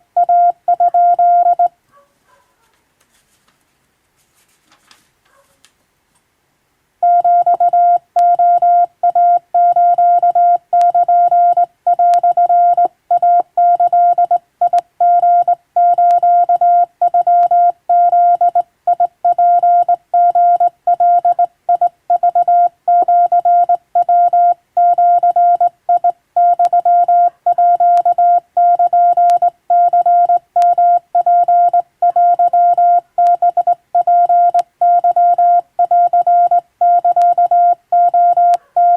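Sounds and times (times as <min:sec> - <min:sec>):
morse code beeps: 0:00.2 - 0:01.7, 0:07.0 - 0:38.9.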